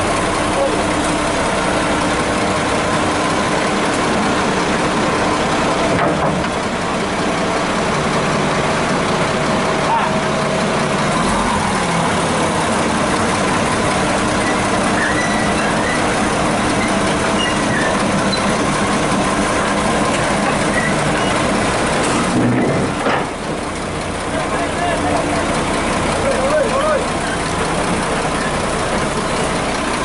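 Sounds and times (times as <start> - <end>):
bulldozer diesel engine running: 0.0 - 30.0
tracks clanking: 0.0 - 30.0.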